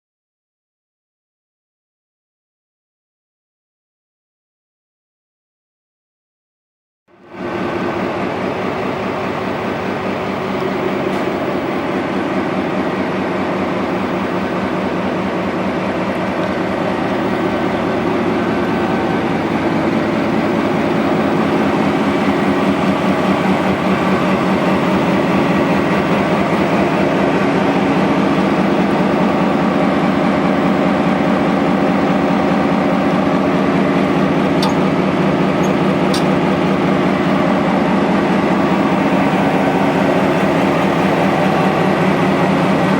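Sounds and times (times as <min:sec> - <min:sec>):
diesel locomotive engine droning: 0:07.1 - 0:42.9.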